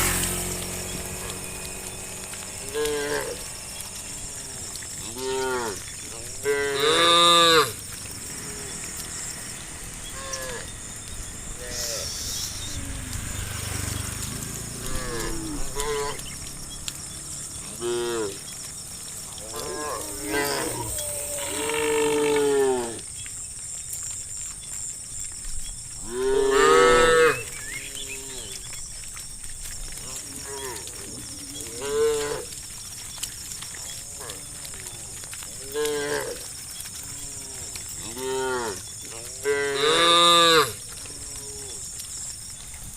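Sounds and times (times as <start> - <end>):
cows mooing: 0.0 - 23.1, 26.0 - 28.9, 29.9 - 42.0.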